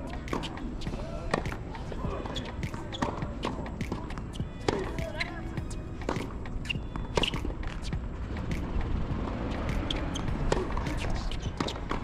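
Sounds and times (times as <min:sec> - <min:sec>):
balls bouncing on hard court: 0:00.0 - 0:08.9, 0:09.5 - 0:12.0
racquets striking tennis balls: 0:00.0 - 0:12.0.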